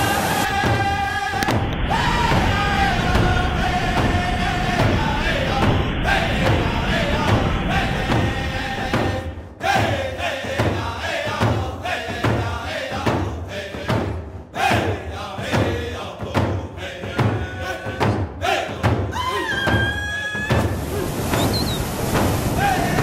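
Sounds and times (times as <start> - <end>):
chanted vocals: 0.0 - 21.4, 22.4 - 23.0
music with thumping beat: 0.5 - 19.9.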